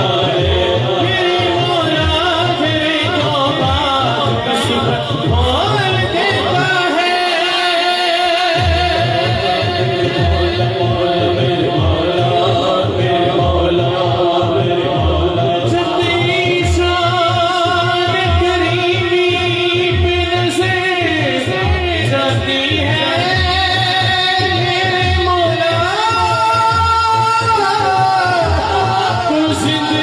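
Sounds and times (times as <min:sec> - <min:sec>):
men singing devotional song: 0:00.0 - 0:30.0.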